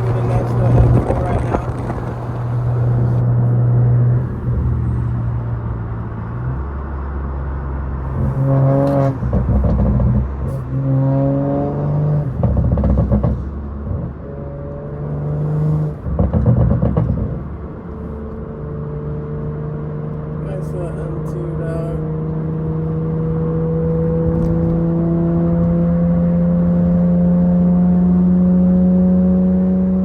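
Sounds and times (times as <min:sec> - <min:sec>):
car engine droning and revving: 0:00.0 - 0:30.0.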